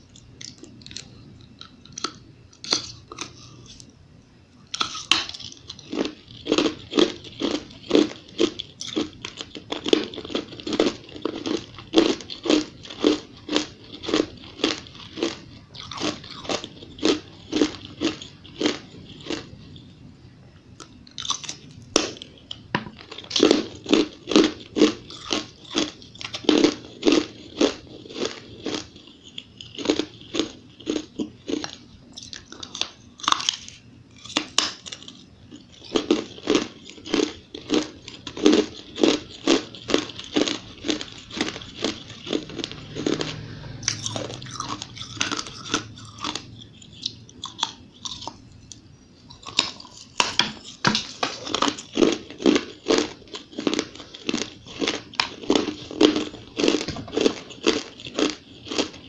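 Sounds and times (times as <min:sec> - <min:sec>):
person chewing ice: 0:00.0 - 0:03.9, 0:04.5 - 0:20.0, 0:20.8 - 0:59.0.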